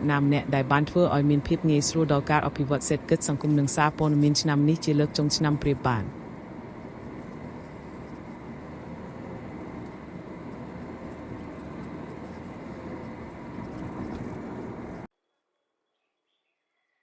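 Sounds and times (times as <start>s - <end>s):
vehicle noise with wavering hum: 0.0s - 15.2s.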